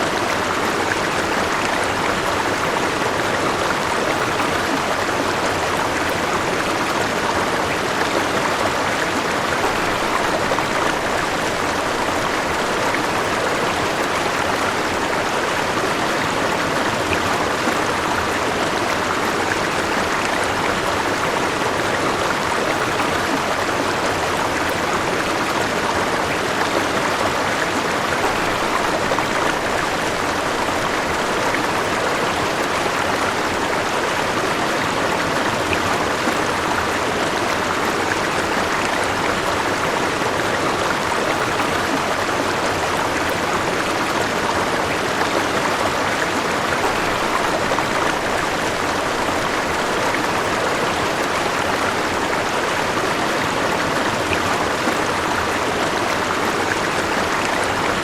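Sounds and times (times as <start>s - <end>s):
river water flowing over rocks: 0.0s - 58.0s.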